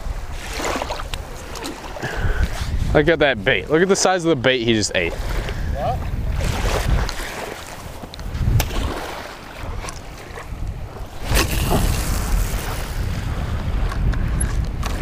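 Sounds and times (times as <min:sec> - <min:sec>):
faint surf: 0:00.0 - 0:15.0
wind buffeting microphone: 0:00.0 - 0:15.0.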